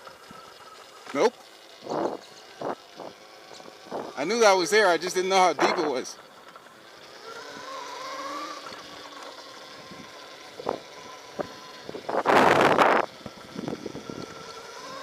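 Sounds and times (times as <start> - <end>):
faint vehicle whine: 0.0 - 15.0.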